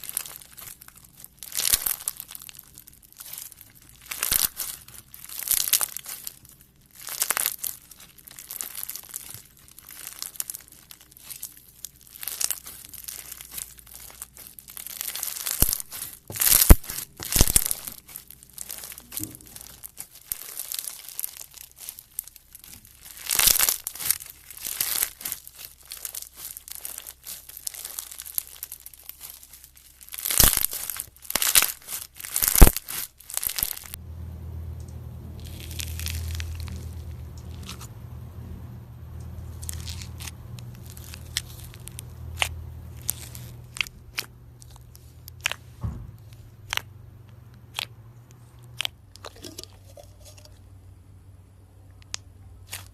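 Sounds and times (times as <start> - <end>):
slime crinkling and crackling: 0.0 - 34.0, 35.4 - 37.9, 39.2 - 50.8, 52.0 - 52.9
slime popping: 0.0 - 34.0, 35.4 - 37.8, 39.6 - 47.0, 47.6 - 47.9, 48.7 - 50.5, 52.0 - 52.9.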